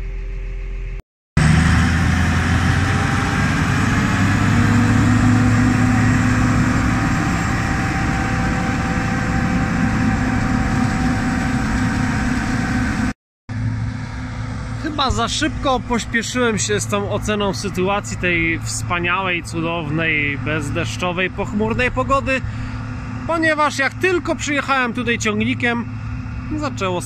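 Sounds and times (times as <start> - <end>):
combine harvester running: 0.5 - 27.0.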